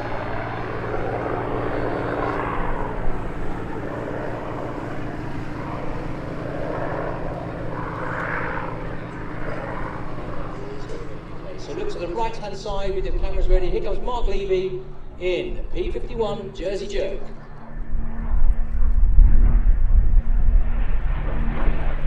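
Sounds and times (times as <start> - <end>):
aircraft rushing flyby: 0.0 - 22.0
propeller aircraft engine: 0.0 - 22.0.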